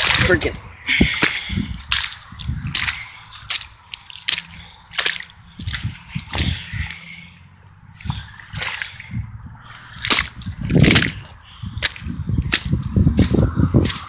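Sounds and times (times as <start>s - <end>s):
feet squelching in wet sand: 0.0s - 14.0s.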